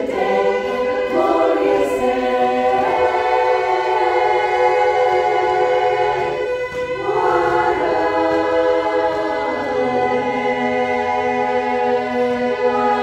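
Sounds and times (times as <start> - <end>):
women's chorus singing a cappella: 0.0 - 13.0.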